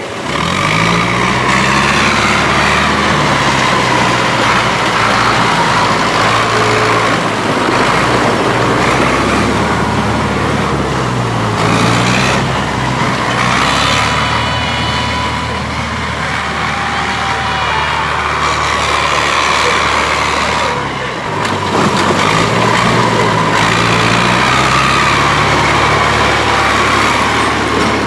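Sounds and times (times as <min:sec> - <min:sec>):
tractor engine revving: 0:00.0 - 0:28.0.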